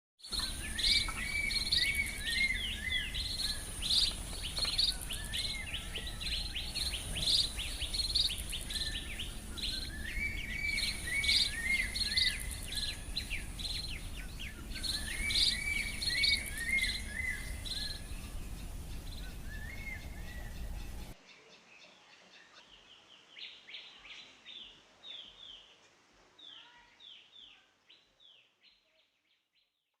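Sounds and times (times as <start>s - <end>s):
bird twittering chirps: 0.2s - 25.7s.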